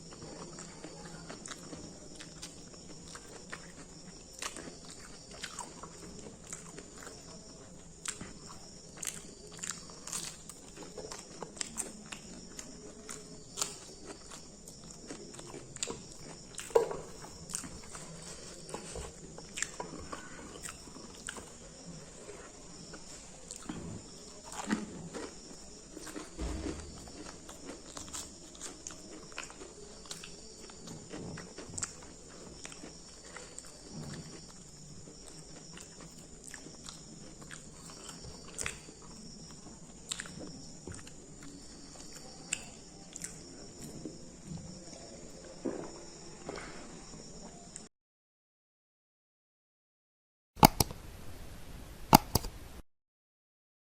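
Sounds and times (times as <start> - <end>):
person chewing crunchy food: 0.0 - 46.6, 50.6 - 50.9.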